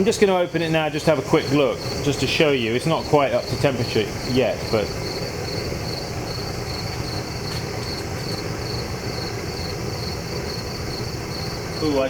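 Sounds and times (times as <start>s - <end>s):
crickets chirping: 0.0s - 12.0s
propane torch burning: 0.0s - 12.0s.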